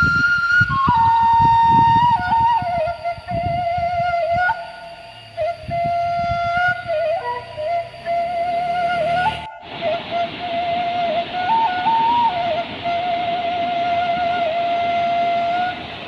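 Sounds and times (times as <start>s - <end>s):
slow flute melody: 0.0s - 16.0s
wind rumble on microphone: 0.0s - 16.0s.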